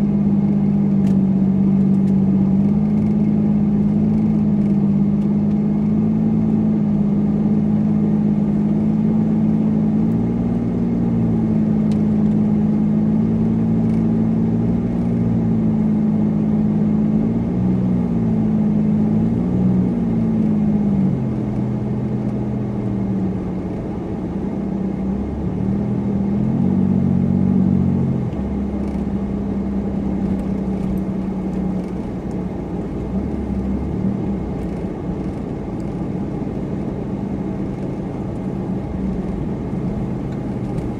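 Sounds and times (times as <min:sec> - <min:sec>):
car engine humming: 0:00.0 - 0:40.9
road noise: 0:00.0 - 0:40.9.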